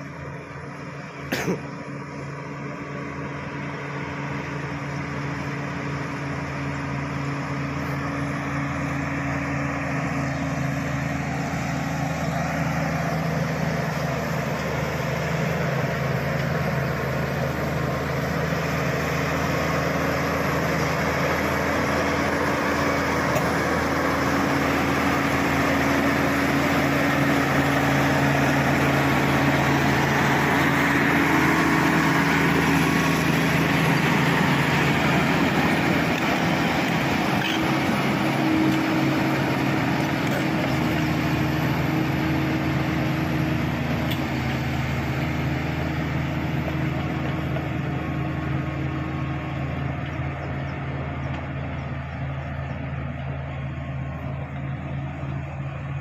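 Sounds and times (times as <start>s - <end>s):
blade pushing soil and brush: 0.0s - 56.0s
bulldozer diesel engine under load: 0.0s - 56.0s.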